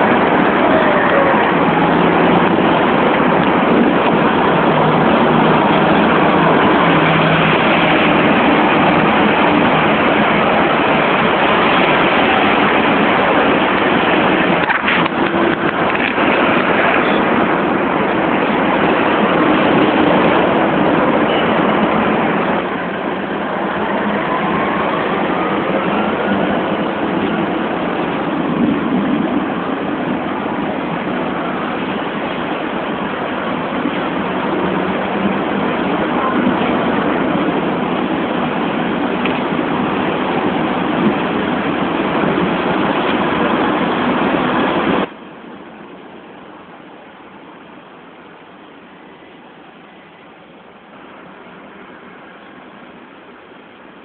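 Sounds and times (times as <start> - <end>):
traffic: 0.0 - 54.0
tram running along street: 0.0 - 54.0.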